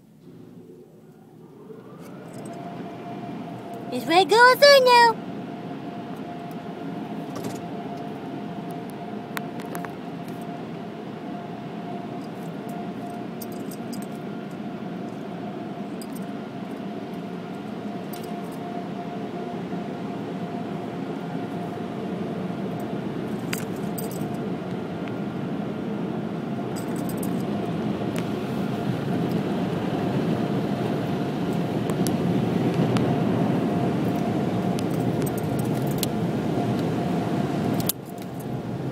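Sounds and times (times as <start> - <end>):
car wash machinery humming: 0.0 - 38.9.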